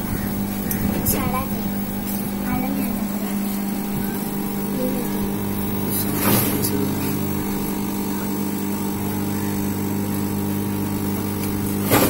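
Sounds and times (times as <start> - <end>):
aquarium pump humming: 0.0 - 12.0.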